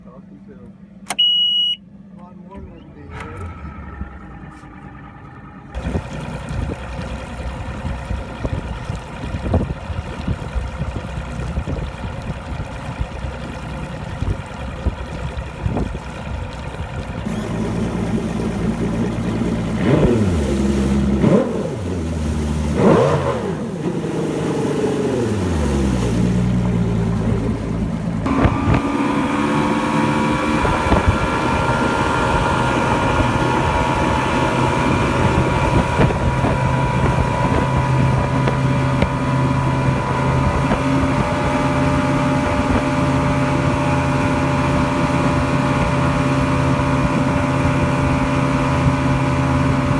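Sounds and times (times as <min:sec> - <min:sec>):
outboard motor revving: 0:02.2 - 0:49.9.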